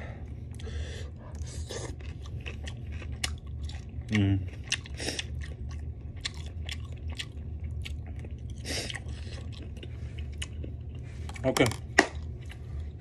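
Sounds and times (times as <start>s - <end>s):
person chewing crispy food: 0.5s - 13.0s.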